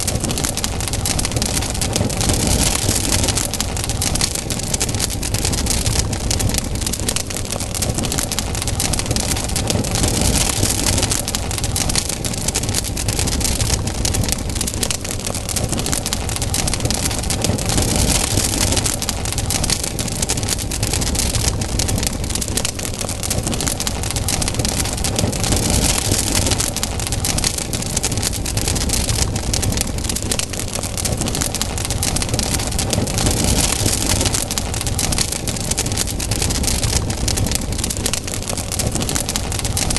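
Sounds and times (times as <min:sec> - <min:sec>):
campfire crackling and popping: 0:00.0 - 0:39.9
low rush of flame: 0:00.0 - 0:39.9.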